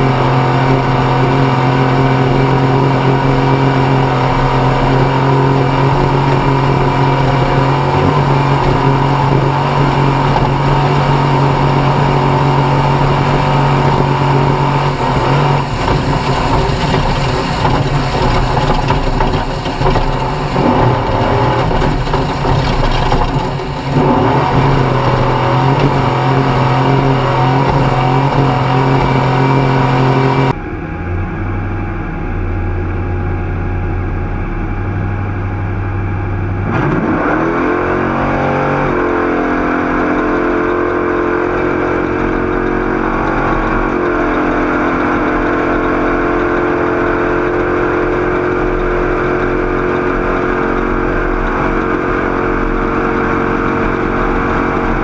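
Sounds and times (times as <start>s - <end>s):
race vehicle engine running hard: 0.0s - 55.0s.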